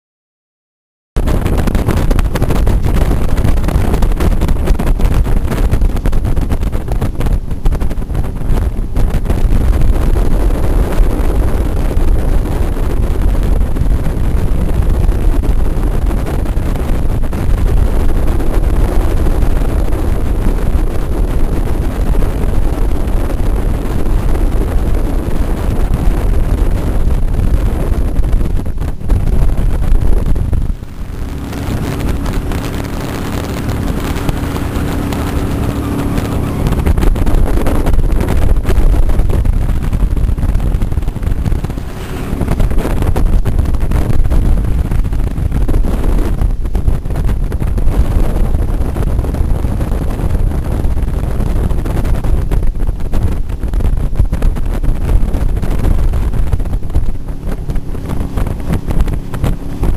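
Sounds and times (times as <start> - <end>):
boat engine hum: 1.2 - 59.9
wind buffeting microphone: 1.2 - 59.9.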